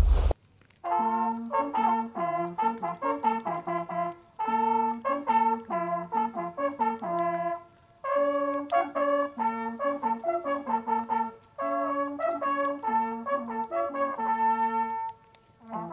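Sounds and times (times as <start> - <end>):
hunting horns playing fanfare: 0.8 - 15.9.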